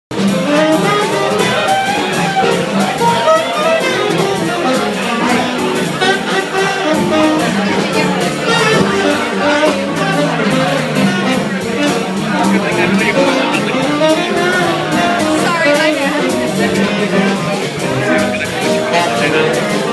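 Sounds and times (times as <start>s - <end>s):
double bass: 0.1s - 19.9s
electric guitar: 0.1s - 19.9s
saxophone melody: 0.2s - 19.9s.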